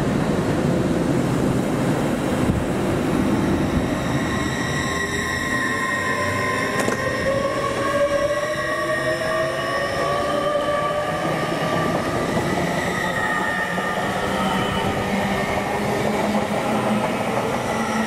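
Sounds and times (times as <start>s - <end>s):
train passing with whining tones: 0.0s - 18.0s.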